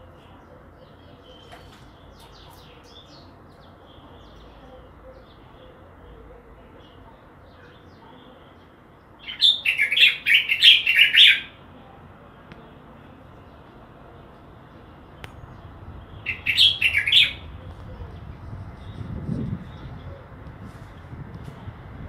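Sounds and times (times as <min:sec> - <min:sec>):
songbird chirping: 0:00.0 - 0:21.9.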